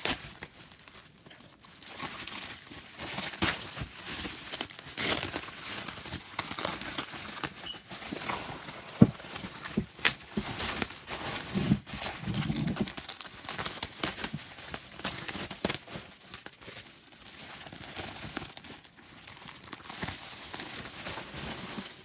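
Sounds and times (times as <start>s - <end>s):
cards and packaging rustling: 0.1s - 22.0s.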